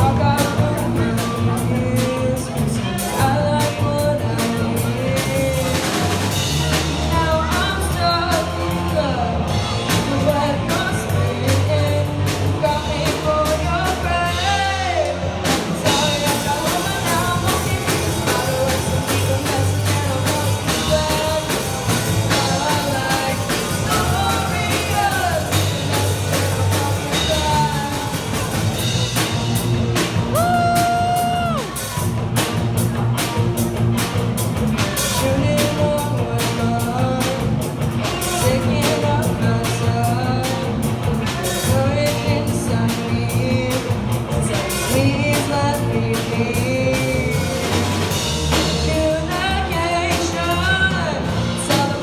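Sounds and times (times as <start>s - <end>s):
person singing: 0.0s - 32.2s, 34.8s - 52.0s
bass guitar: 0.0s - 52.0s
drum kit: 0.0s - 52.0s.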